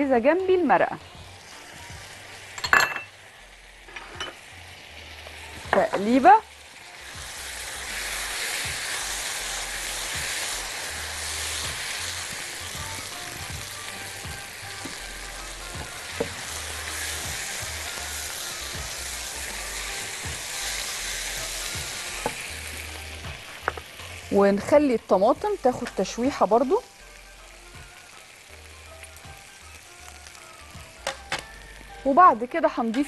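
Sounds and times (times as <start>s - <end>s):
food sizzling in hot pan: 0.0s - 33.0s.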